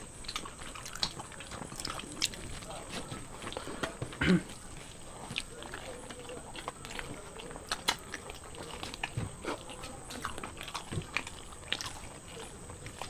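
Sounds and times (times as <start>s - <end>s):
chewing and lip-smacking: 0.0s - 13.0s.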